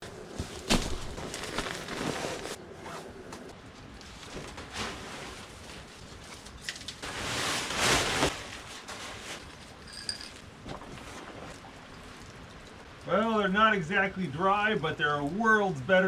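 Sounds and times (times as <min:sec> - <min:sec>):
rustling handling noise: 0:00.0 - 0:13.1.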